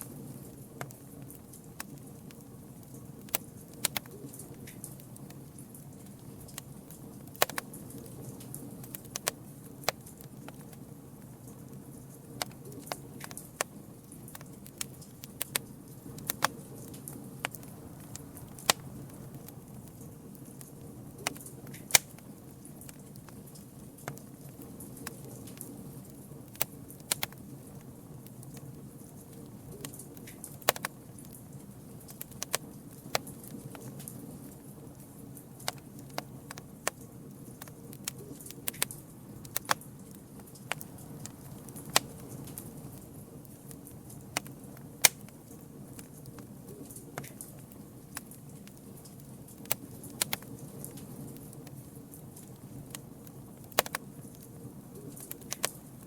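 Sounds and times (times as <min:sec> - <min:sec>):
campfire flames rumbling: 0:00.0 - 0:56.0
fire crackles and pops: 0:00.0 - 0:56.0.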